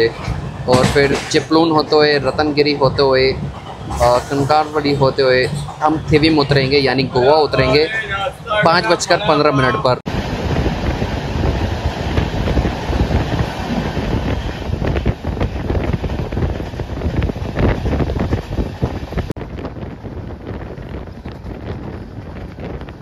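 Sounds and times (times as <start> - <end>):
train wheels clattering on rails: 0.0 - 9.0, 10.3 - 23.0
wind buffeting microphone: 0.0 - 23.0.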